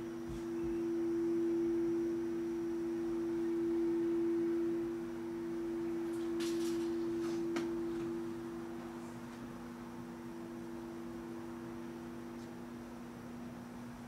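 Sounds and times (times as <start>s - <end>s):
ringing pure tones: 0.0s - 12.3s.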